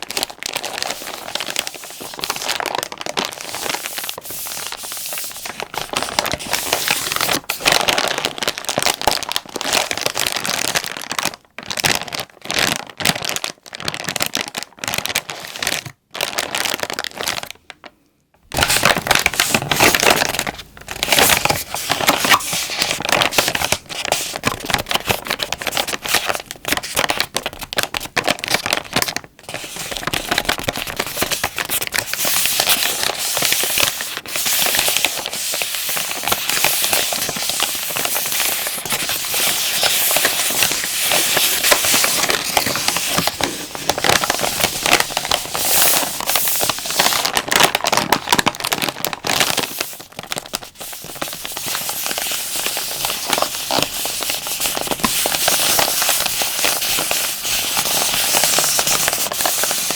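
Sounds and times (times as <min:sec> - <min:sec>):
plastic pack crinkling: 0:00.0 - 0:17.9, 0:18.5 - 0:59.9.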